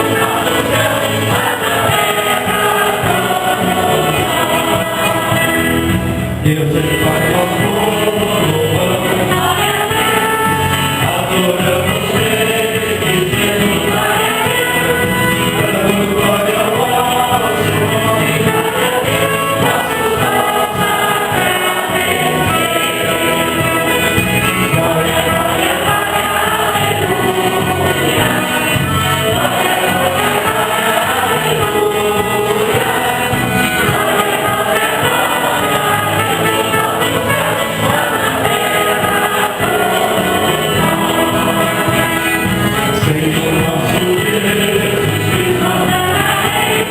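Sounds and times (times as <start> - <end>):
choir singing a hymn: 0.0 - 46.9
instrumental accompaniment: 0.0 - 46.9.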